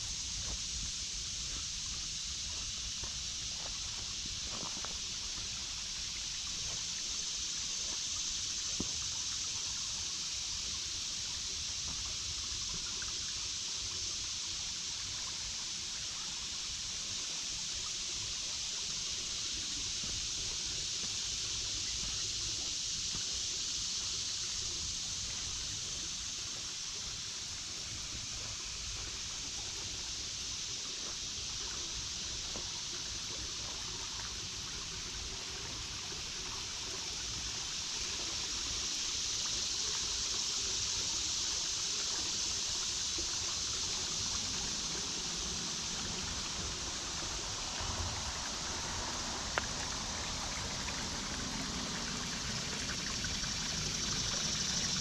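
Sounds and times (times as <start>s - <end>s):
creek water babbling over stones: 0.0s - 55.0s.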